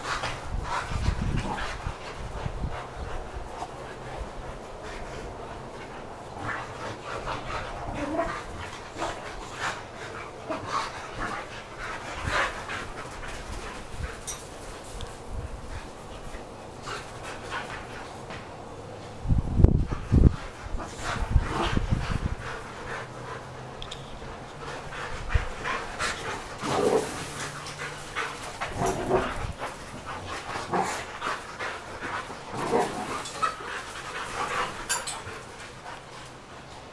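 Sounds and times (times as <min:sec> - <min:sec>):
dogs play-fighting: 0:00.0 - 0:36.9.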